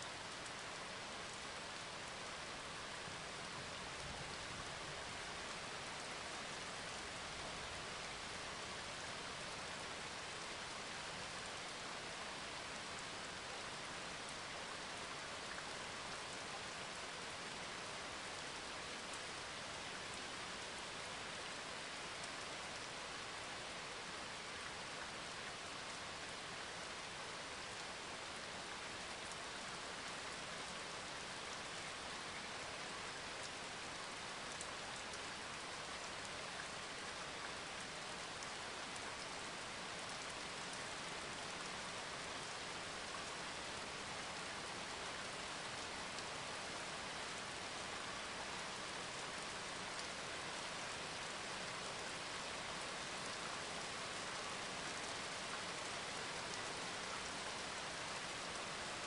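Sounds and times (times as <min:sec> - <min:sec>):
faint raindrop ticks: 0:00.0 - 0:59.0
steady rain hiss: 0:00.0 - 0:59.0.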